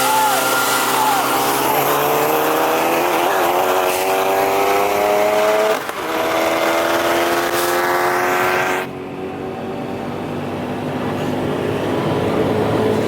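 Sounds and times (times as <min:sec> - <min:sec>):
car engine accelerating at full throttle: 0:00.0 - 0:13.0.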